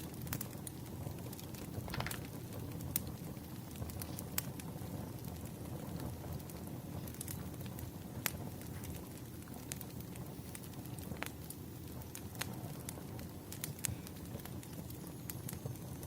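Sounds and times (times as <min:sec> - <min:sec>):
fire burning rumble: 0:00.0 - 0:16.0
fire crackling pops: 0:00.0 - 0:16.0.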